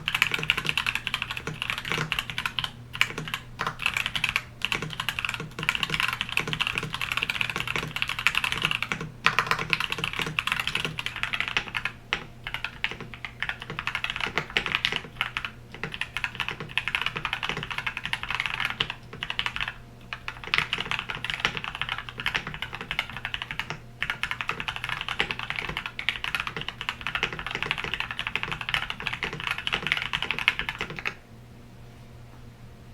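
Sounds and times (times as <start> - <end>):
typing on a mechanical keyboard: 0.0 - 31.2.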